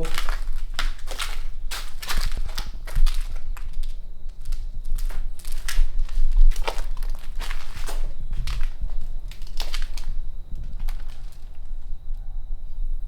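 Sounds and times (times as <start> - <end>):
footsteps crunching debris: 0.0 - 11.9.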